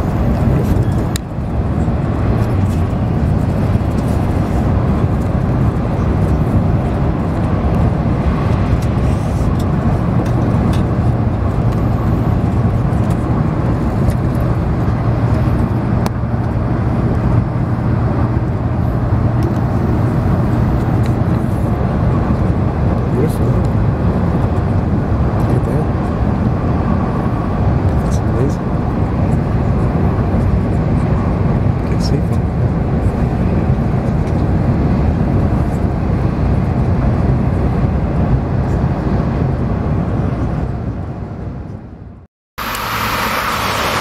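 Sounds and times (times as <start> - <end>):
train rumbling inside carriage: 0.0 - 41.9.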